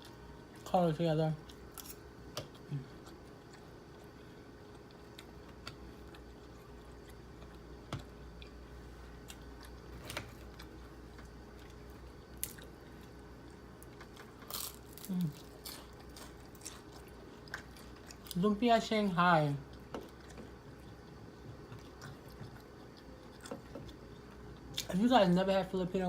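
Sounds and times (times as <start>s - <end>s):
close chewing: 1.4s - 18.4s, 19.6s - 25.0s.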